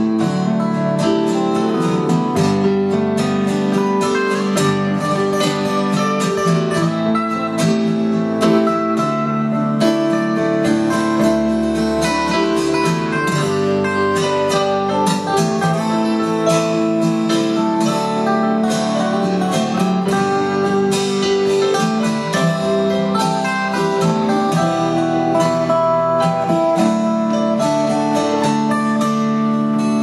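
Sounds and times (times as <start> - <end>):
held melody notes: 0.0 - 30.0
strummed acoustic guitar: 0.0 - 30.0.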